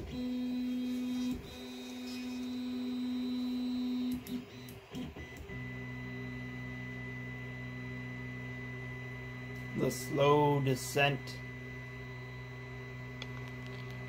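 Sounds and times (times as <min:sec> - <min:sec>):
low steady motor hum: 0:00.0 - 0:14.0
stepper motor whine: 0:00.0 - 0:14.0.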